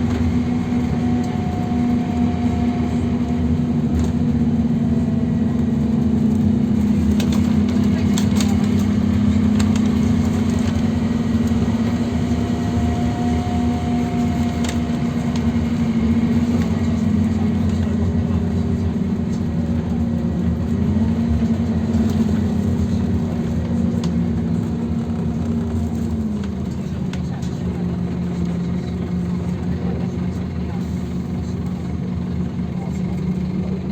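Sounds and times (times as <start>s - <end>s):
bus engine drone: 0.0s - 33.9s
road noise: 0.0s - 33.9s.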